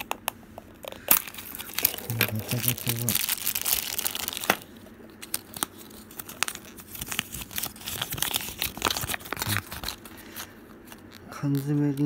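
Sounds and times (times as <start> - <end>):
plastic and paper crinkling: 0.9 - 12.0.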